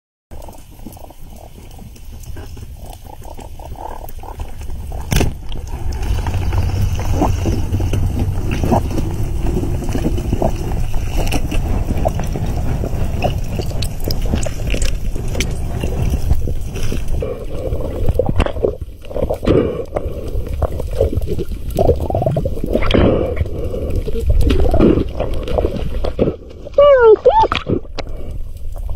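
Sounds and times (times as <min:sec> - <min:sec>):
crackles: 0:00.3 - 0:28.9
underwater rushing gurgling water: 0:00.4 - 0:28.9.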